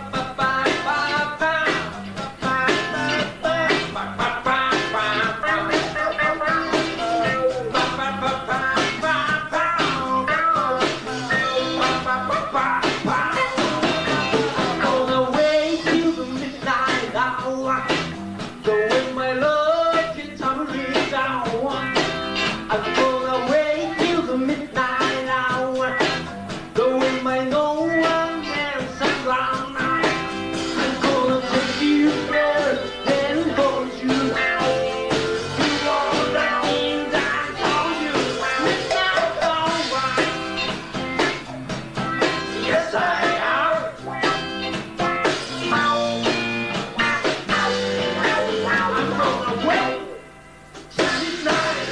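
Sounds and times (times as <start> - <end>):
bass guitar: 0.0 - 51.9
drums: 0.0 - 51.9
electric guitars: 0.0 - 51.9.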